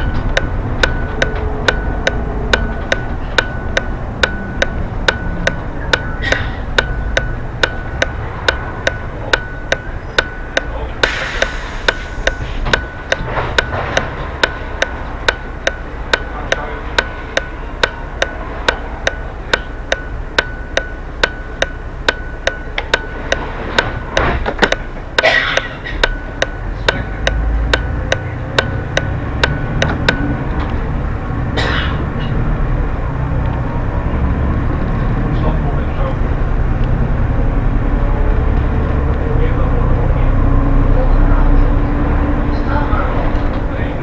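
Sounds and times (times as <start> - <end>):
bus engine running: 0.0 - 44.0
turn signal ticking: 0.0 - 44.0.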